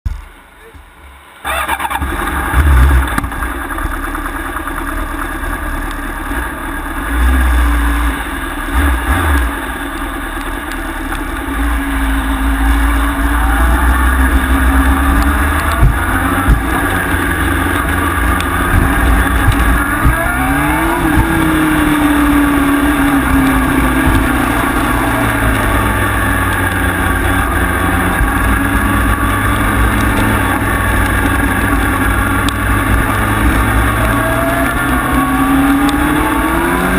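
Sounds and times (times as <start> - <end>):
motorcycle engine revving: 1.4 - 36.9.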